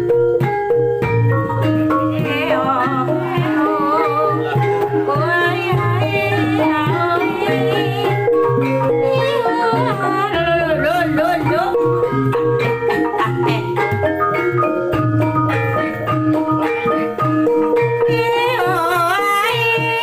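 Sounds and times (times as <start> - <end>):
drum strokes: 0.0 - 20.0
gamelan ensemble playing: 0.0 - 20.0
high wavering melody line: 0.9 - 20.0.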